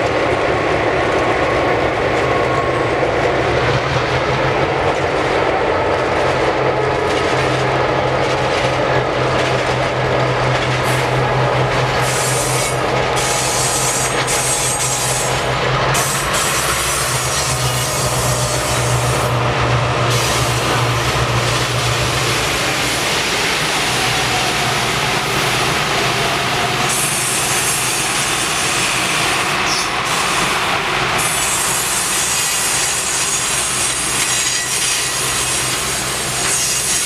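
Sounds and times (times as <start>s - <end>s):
train wheels rushing on rails: 0.0s - 37.0s.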